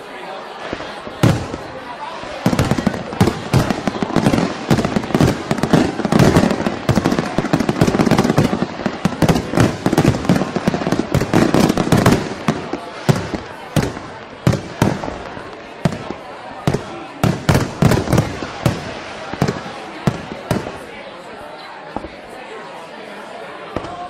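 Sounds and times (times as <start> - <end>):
fireworks bangs and crackles: 0.0 - 21.3, 21.9 - 22.4, 23.7 - 24.0.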